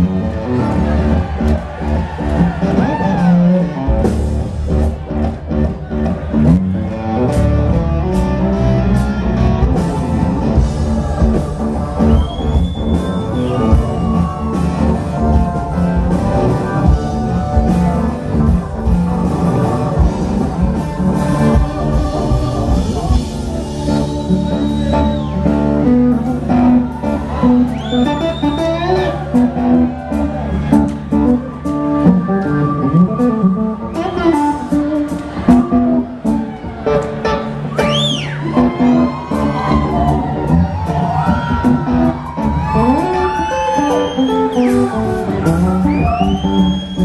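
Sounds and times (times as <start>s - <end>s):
bass: 0.0s - 47.0s
drums: 0.0s - 47.0s
electric guitar: 0.0s - 47.0s.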